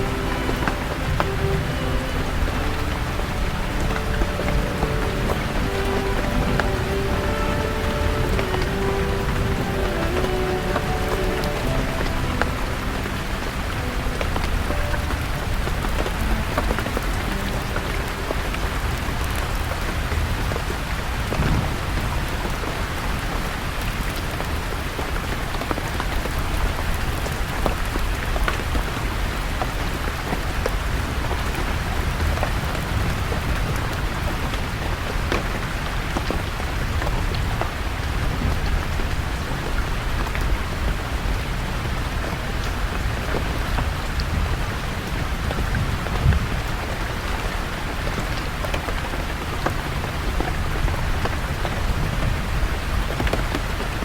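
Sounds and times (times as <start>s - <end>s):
raindrops ticking: 0.0s - 54.0s
steady rain falling: 0.0s - 54.0s.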